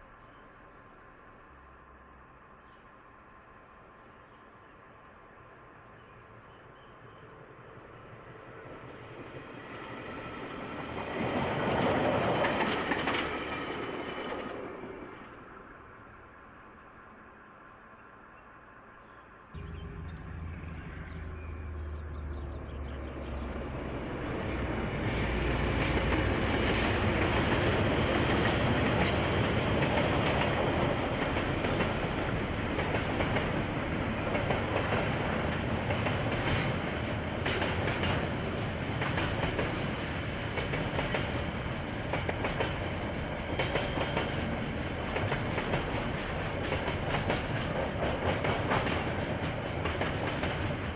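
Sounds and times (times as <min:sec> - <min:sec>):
train passing: 0:00.0 - 0:50.9.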